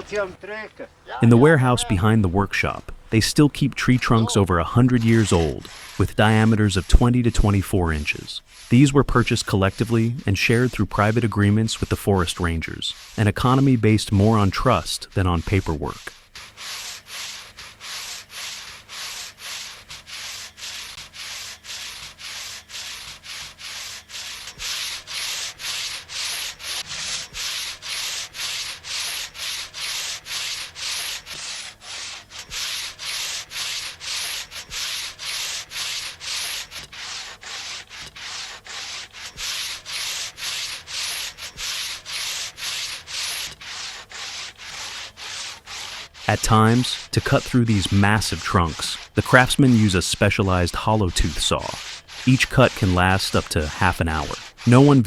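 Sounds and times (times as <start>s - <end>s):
hand saw cutting tree trunk: 1.6s - 55.0s.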